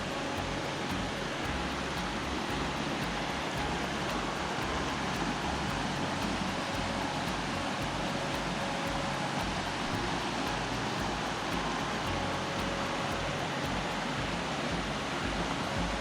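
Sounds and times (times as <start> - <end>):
water noise: 0.0 - 16.0.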